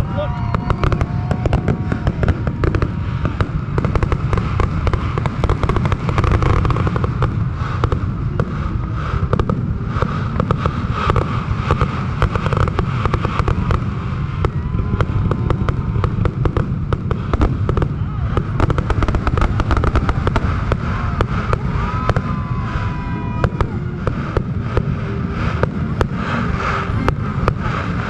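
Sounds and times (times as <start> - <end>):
continuous low rumble: 0.0 - 28.0
fireworks bursting and crackling: 0.0 - 28.0
sharp bangs: 0.0 - 28.0.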